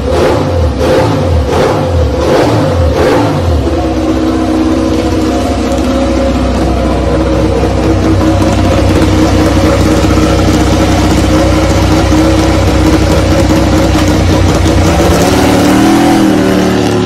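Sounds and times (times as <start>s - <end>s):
motorcycle engine at high idle: 0.0s - 17.0s.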